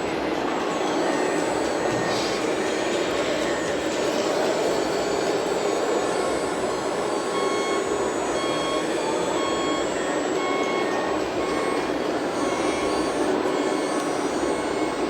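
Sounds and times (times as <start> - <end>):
steady background noise: 0.0 - 15.0
reversing beeper: 0.7 - 15.0.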